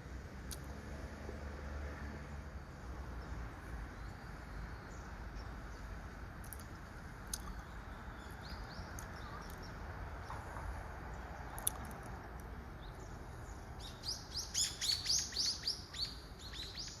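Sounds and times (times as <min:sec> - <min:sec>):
small bird chirping: 0:03.2 - 0:17.0.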